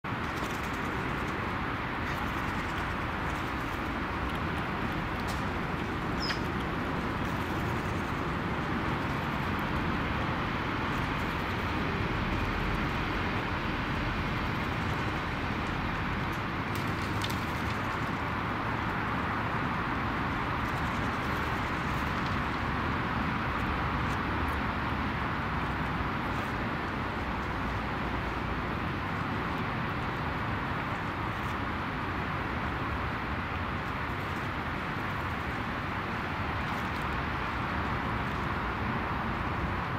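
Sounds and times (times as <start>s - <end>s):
outdoor hiss and hum: 0.0s - 39.9s.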